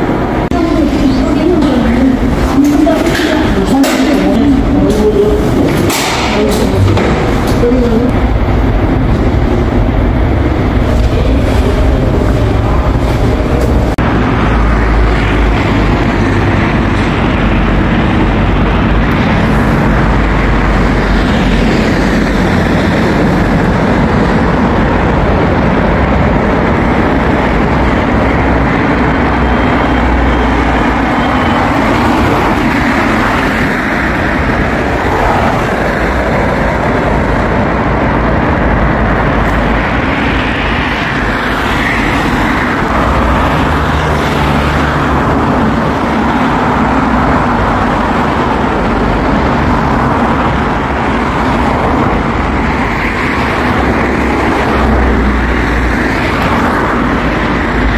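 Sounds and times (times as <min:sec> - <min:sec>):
subway train wheels rumbling: 0:00.0 - 0:57.9.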